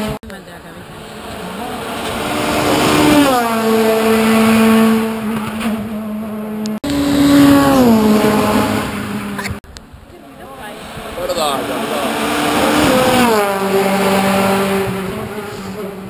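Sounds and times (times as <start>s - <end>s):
race car engines at high revs: 0.0s - 9.6s, 10.3s - 16.0s.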